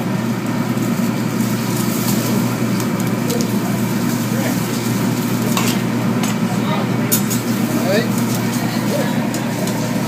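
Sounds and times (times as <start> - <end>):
grill rumble and hiss: 0.0 - 10.0.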